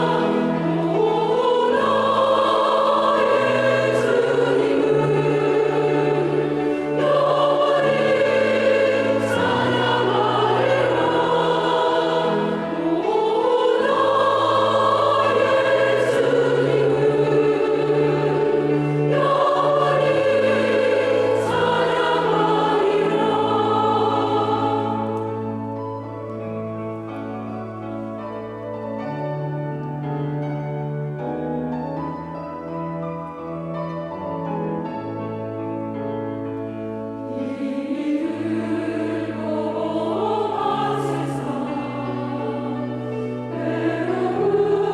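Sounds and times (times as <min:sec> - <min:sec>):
choir singing in parts: 0:00.0 - 0:31.2, 0:34.1 - 0:44.9.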